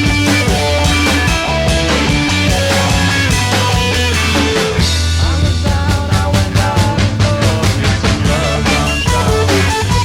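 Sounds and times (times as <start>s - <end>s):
bass guitar: 0.0s - 10.0s
drum beat: 0.0s - 10.0s
electric guitar: 0.0s - 10.0s.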